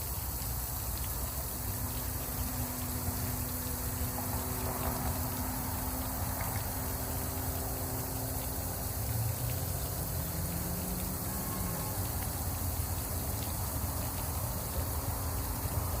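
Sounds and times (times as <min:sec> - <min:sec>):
fountain water splashing: 0:00.0 - 0:16.0
road traffic rumble: 0:00.0 - 0:16.0.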